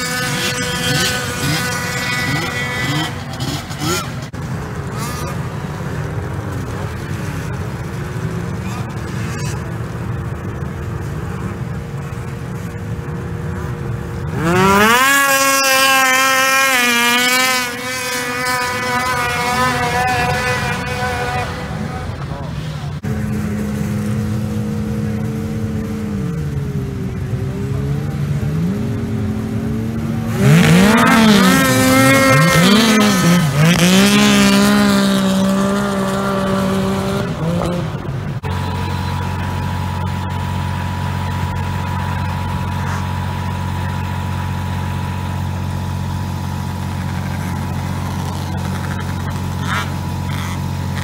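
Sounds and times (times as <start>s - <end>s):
snowmobile engines revving: 0.0s - 51.0s
steady engine drone: 0.0s - 51.0s.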